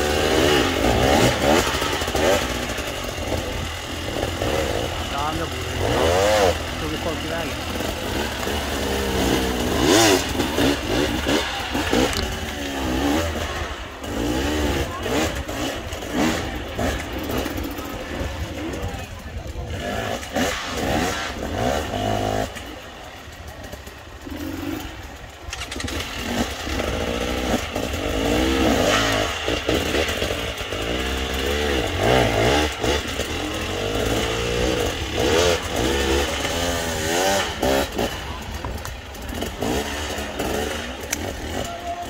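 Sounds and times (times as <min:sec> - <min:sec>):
motorcycle engines revving: 0:00.0 - 0:42.0.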